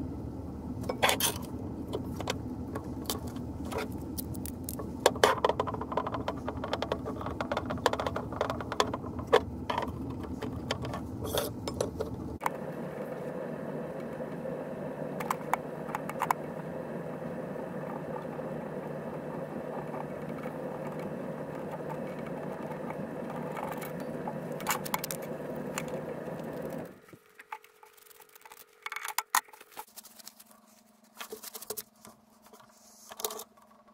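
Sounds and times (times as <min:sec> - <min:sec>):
low background hum: 0:00.0 - 0:33.9.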